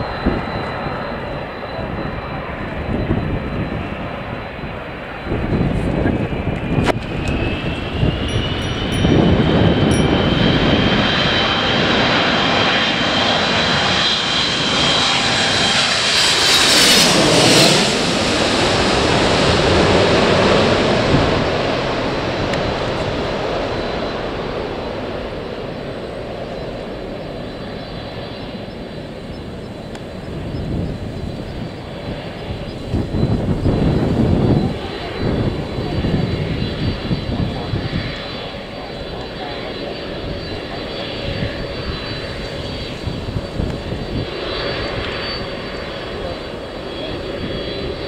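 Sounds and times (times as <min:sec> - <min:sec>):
airliner engine roar: 0:00.0 - 0:48.0
high engine whine: 0:00.0 - 0:48.0.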